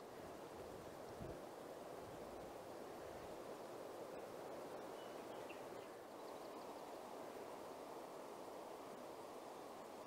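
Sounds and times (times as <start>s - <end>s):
faint wind hiss: 0.0s - 10.0s.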